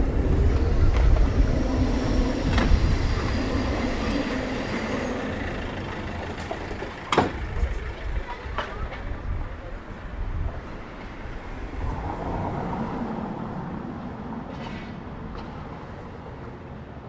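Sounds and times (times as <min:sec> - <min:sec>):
heavy vehicle rumbling past: 0:00.0 - 0:16.0.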